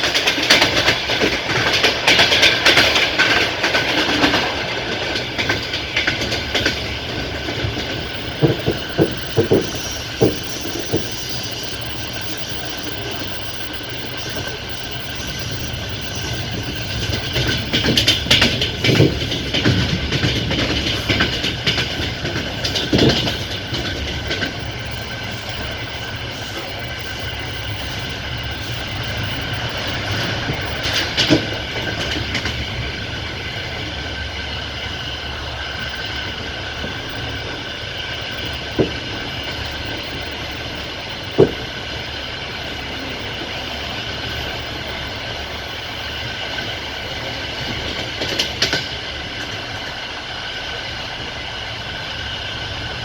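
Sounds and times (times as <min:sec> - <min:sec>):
wheels clacking over rail joints: 0:00.0 - 0:50.7
train wheels rumbling on rails: 0:00.0 - 0:53.0.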